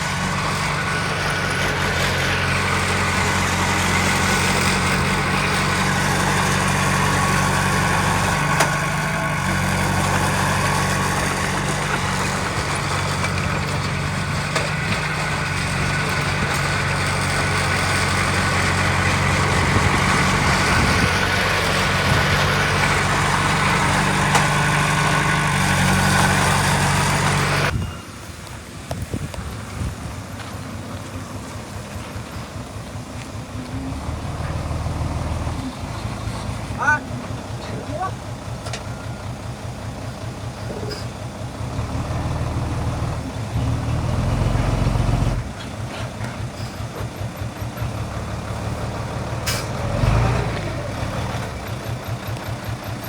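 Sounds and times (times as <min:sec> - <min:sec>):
diesel engine droning: 0:00.0 - 0:53.0.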